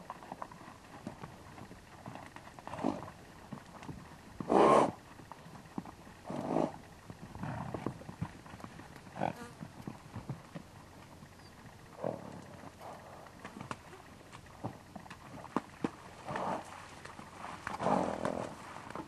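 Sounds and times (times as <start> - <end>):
hooves thudding on dirt: 0.0 - 19.0.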